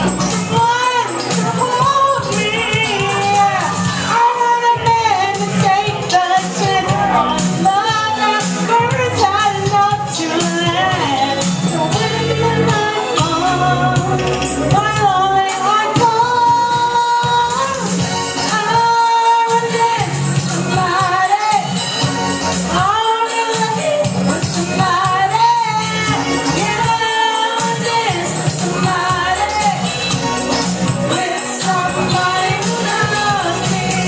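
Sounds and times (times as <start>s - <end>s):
pop song: 0.0s - 34.0s.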